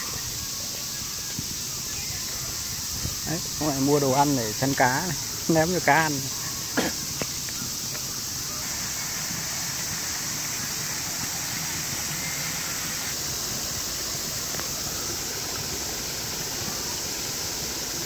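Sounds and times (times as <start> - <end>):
water rushing over weir: 0.0 - 18.0.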